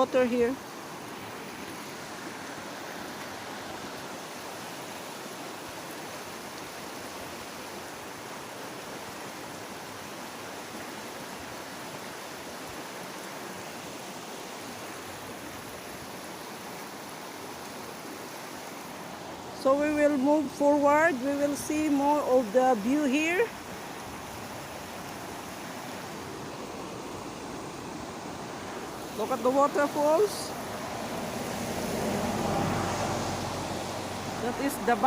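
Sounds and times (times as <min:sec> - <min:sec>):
stream water rushing: 0:00.0 - 0:35.0.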